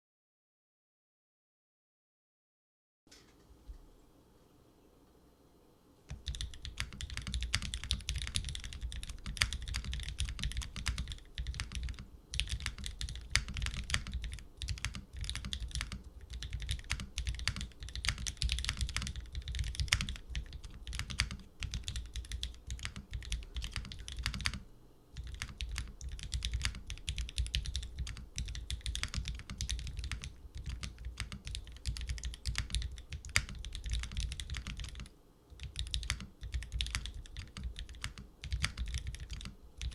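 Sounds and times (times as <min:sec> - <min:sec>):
typing on a mechanical keyboard: 0:06.1 - 0:24.6, 0:25.2 - 0:39.9.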